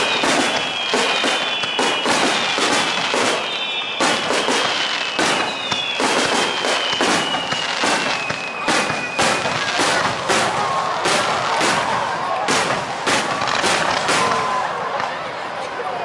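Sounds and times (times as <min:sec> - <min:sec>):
firework shells bursting: 0:00.0 - 0:14.5
firework crackling: 0:00.0 - 0:15.0.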